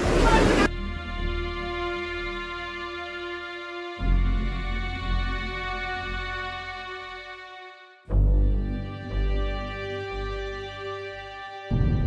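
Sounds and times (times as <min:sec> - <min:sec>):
held music chord: 0:00.7 - 0:12.0.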